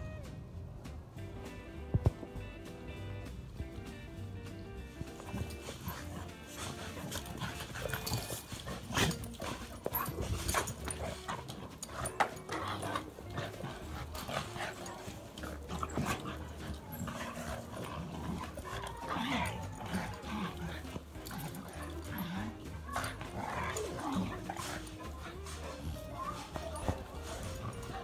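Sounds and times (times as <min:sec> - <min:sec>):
background music with bass line: 0:00.0 - 0:28.0
dogs play-fighting: 0:02.0 - 0:28.0.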